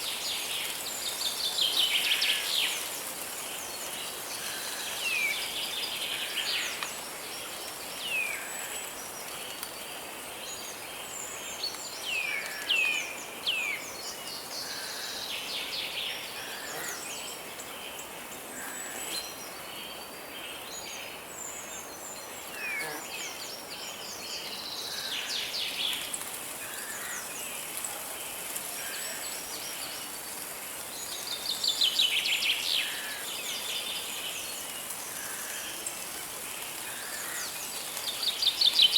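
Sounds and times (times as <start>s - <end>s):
river flowing hiss: 0.0s - 38.9s.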